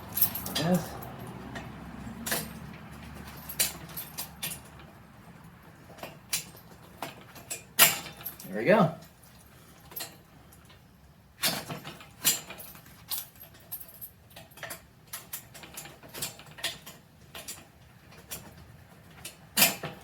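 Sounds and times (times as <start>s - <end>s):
metal clinks and clanks: 0.0s - 10.8s, 11.4s - 20.0s.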